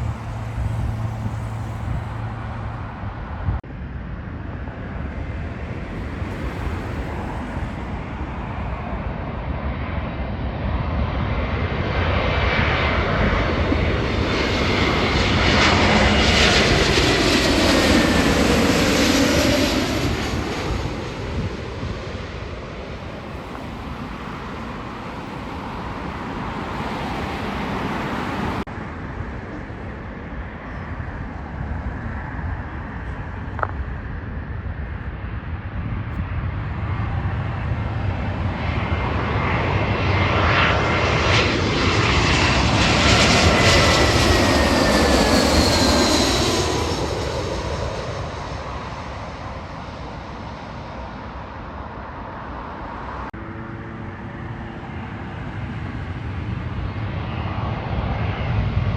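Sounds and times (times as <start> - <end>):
jet airliner passing: 0.0 - 58.9.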